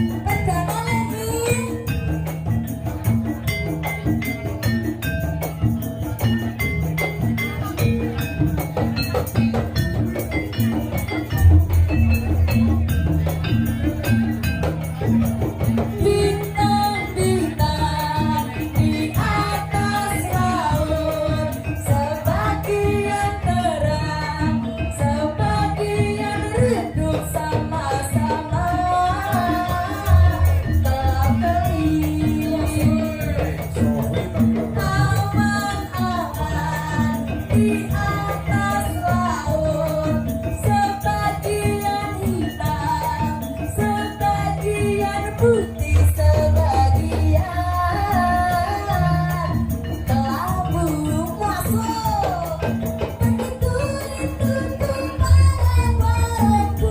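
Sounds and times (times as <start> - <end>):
folk band percussion beat: 0.0 - 56.9.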